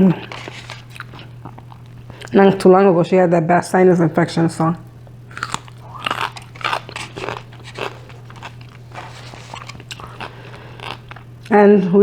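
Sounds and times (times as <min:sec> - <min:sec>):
chewing and crunching food: 0:00.0 - 0:02.6, 0:03.9 - 0:11.6.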